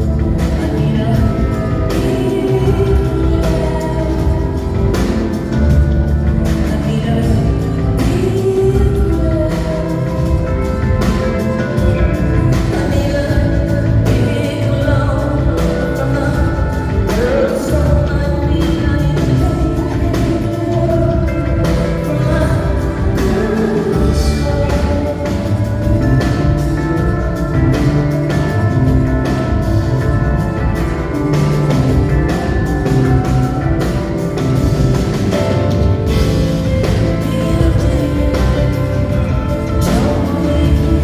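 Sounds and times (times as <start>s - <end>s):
live rock band: 0.0s - 41.0s
woman singing: 0.0s - 41.0s.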